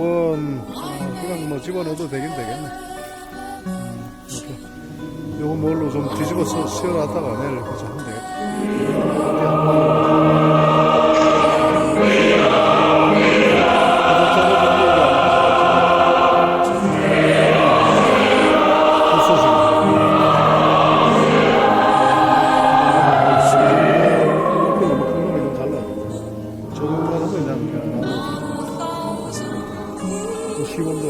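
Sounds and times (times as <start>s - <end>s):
choir singing held chords: 5.2s - 31.0s.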